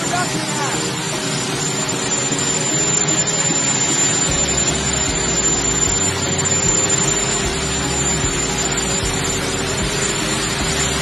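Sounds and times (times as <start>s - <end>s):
helicopter rotor noise: 0.0s - 11.0s
helicopter turbine whine: 0.0s - 11.0s.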